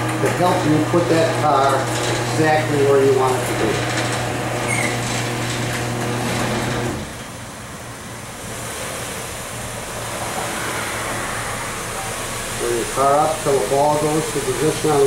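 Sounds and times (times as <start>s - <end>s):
garage door opener humming: 0.0s - 7.9s, 9.8s - 15.0s.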